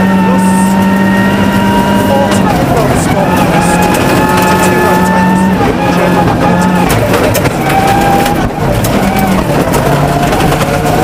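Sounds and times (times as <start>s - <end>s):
rally car engine at high revs: 0.0s - 11.0s
gravel rattling against car: 0.3s - 11.0s.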